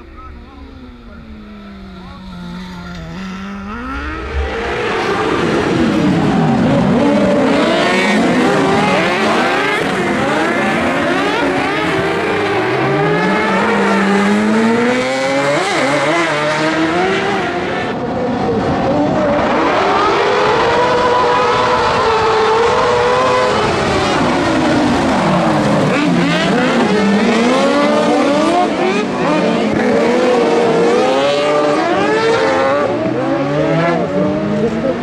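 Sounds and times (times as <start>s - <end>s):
kart engines revving: 0.0s - 35.0s.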